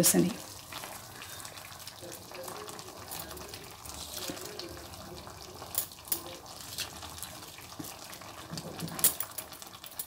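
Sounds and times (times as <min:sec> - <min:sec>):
curry bubbling in a pot: 0:00.0 - 0:10.0.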